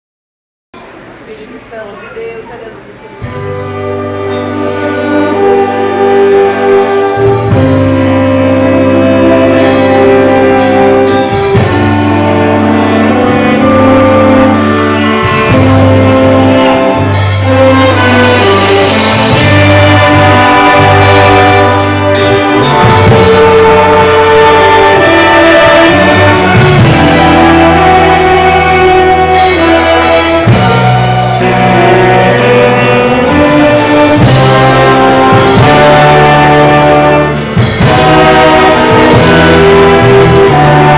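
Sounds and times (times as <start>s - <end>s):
bass and drums: 3.2s - 40.9s
brass section playing: 3.2s - 40.9s.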